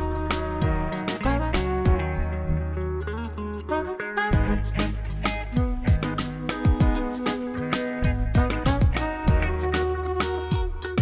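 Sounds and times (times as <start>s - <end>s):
plucked guitar music with drums: 0.0s - 11.0s.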